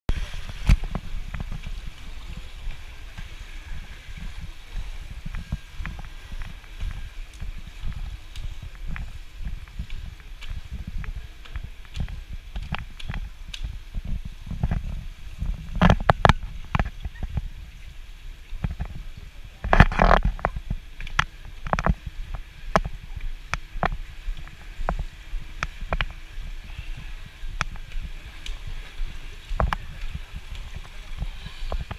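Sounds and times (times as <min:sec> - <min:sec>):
muffled underwater rumble: 0:00.1 - 0:31.9
rush of water: 0:00.1 - 0:31.9.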